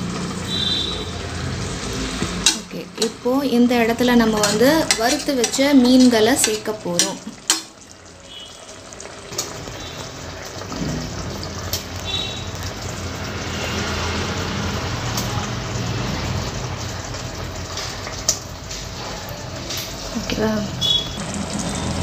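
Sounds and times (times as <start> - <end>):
pressure cooker bubbling hiss: 0.0 - 22.0.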